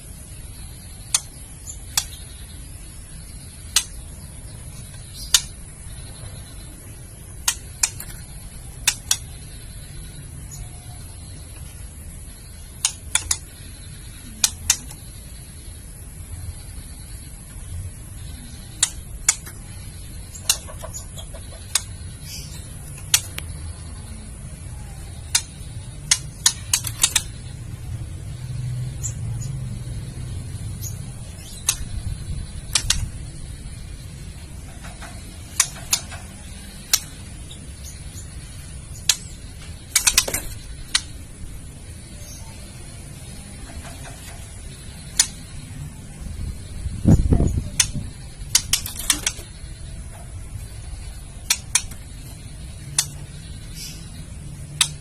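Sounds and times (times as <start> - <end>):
bird dry clicking calls: 0.6 - 15.9, 18.2 - 24.1, 24.8 - 27.6, 30.8 - 41.4, 42.0 - 45.8, 46.7 - 55.0.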